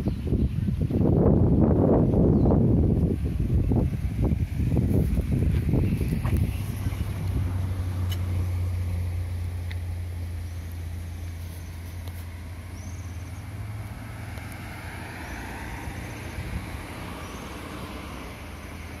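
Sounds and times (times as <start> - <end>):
steady low rumble: 0.0 - 17.3.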